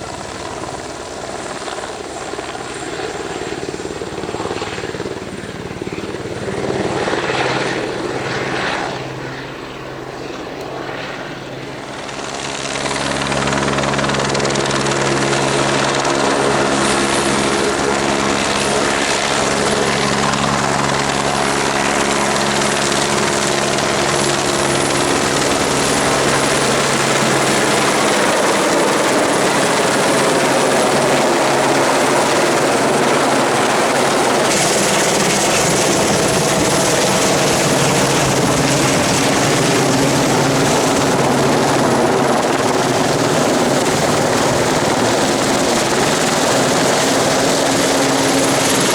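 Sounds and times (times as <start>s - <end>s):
helicopter rotor and engine: 0.0s - 48.9s.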